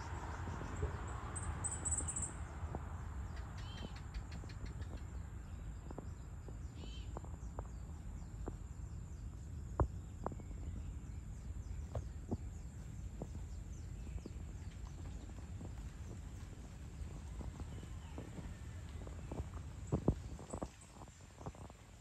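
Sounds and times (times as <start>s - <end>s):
bird chirping: 0.0s - 21.7s.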